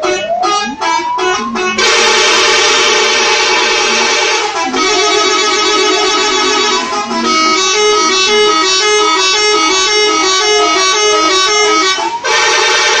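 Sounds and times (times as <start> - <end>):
multi-tone bus horn tune: 0.0 - 13.0.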